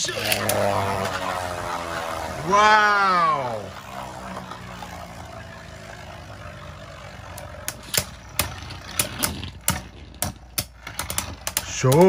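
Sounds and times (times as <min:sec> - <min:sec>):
spinning tops clacking together: 0:00.0 - 0:02.4, 0:03.8 - 0:12.0
spinning tops whirring: 0:00.0 - 0:12.0.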